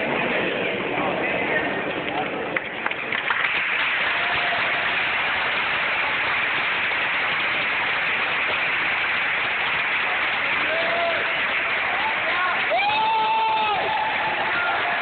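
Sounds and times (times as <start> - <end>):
crowd applauding: 2.1 - 15.0.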